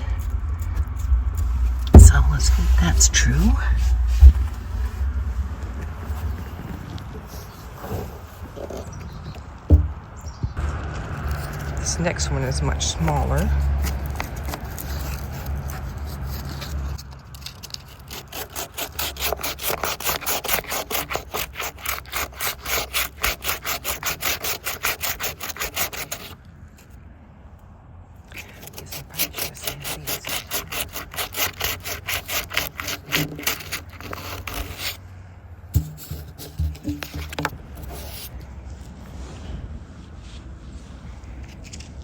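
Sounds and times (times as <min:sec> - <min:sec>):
rubbing against plastic barrel: 0:00.0 - 0:10.0, 0:12.8 - 0:26.4, 0:28.3 - 0:39.4.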